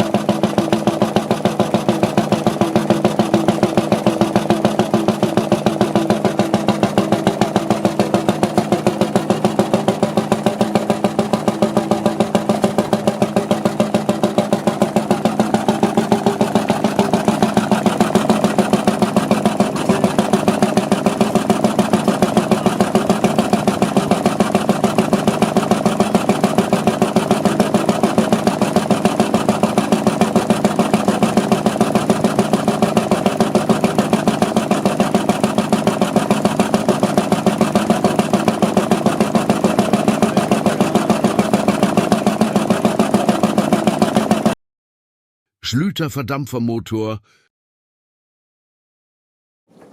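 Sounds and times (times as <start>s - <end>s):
stationary engine running: 0.0s - 44.6s.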